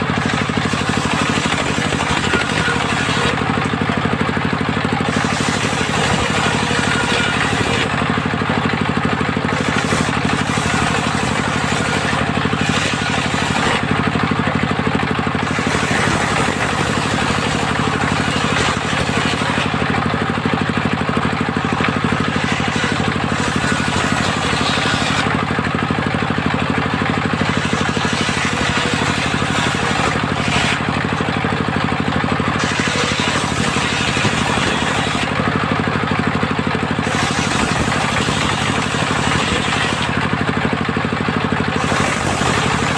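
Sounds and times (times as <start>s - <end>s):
circular saw cutting wood: 0.0s - 42.9s
engine drone: 0.0s - 42.9s.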